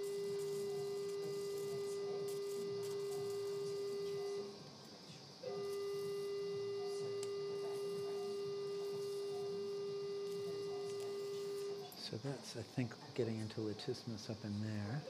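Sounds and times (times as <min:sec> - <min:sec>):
electrosurgical activation tone: 0:00.0 - 0:12.3.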